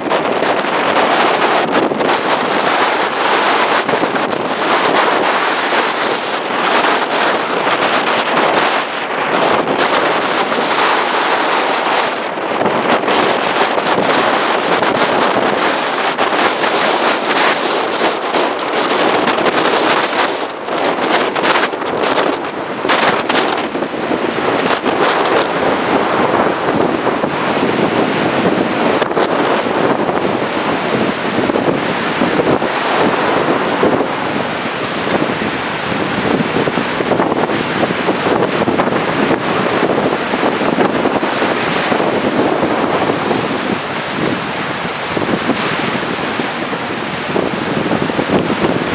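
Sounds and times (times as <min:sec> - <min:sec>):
breaking surf: 0:00.0 - 0:48.9
strong wind buffeting microphone: 0:00.0 - 0:48.9.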